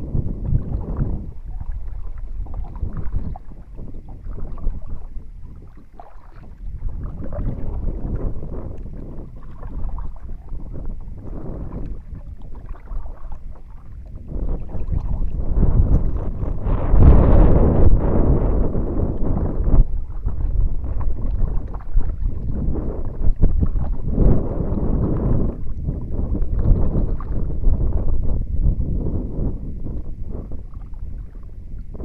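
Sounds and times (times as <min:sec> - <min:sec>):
kayak paddle strokes in water: 0:00.0 - 0:32.0
wind buffeting microphone: 0:00.0 - 0:32.0.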